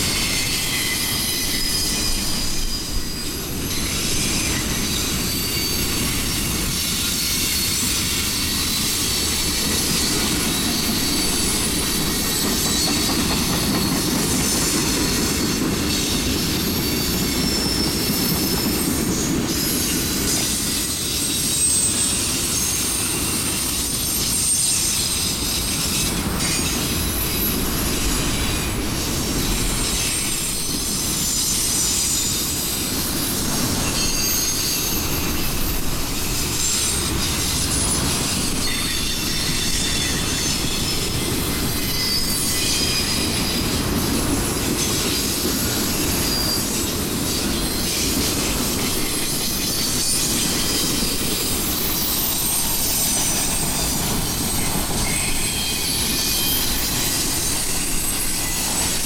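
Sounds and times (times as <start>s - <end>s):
freight train rumble: 0.0s - 59.0s
wheels squealing against rails: 0.0s - 59.0s.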